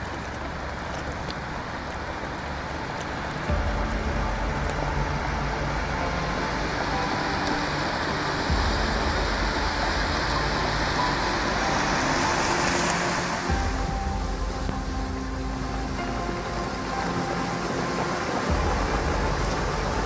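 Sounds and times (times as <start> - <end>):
faint background music: 0.0 - 20.0
floodwater rushing: 0.0 - 20.0.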